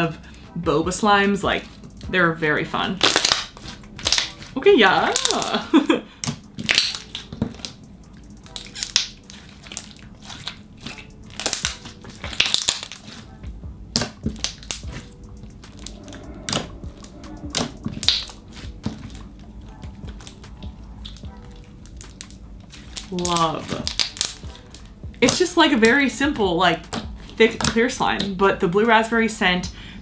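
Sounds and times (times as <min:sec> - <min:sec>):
hands squishing slime: 0:03.0 - 0:05.6, 0:06.2 - 0:28.3.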